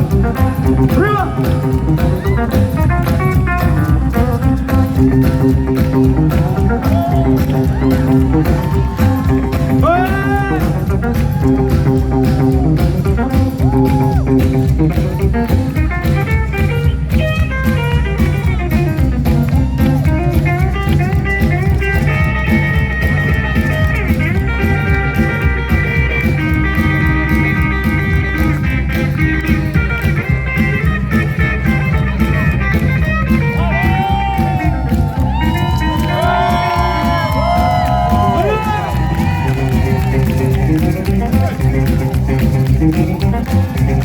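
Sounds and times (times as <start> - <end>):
electric guitar lines: 0.0 - 44.0
steady drum beat: 0.0 - 44.0.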